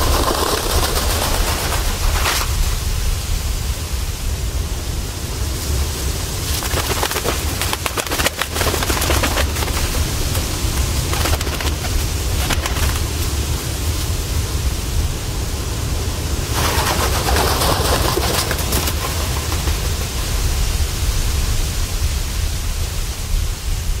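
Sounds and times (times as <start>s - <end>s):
steady noise hiss: 0.0s - 24.0s.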